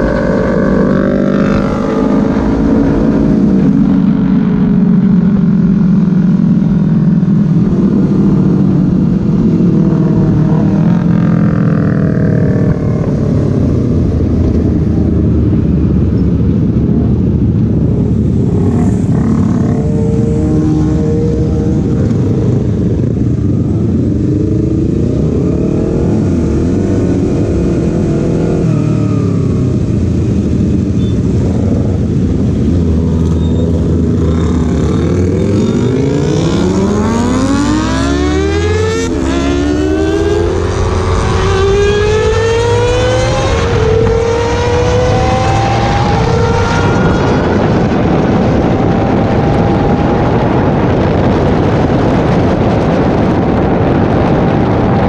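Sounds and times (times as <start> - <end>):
motorcycle engine: 0.0 - 55.0
wind rush: 0.0 - 55.0.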